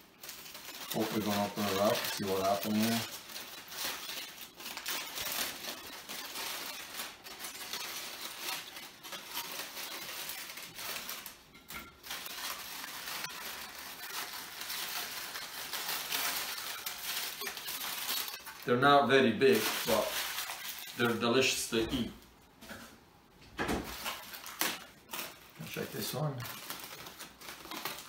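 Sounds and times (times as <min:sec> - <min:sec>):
aluminium foil crinkling: 0:00.0 - 0:22.2, 0:23.8 - 0:28.0.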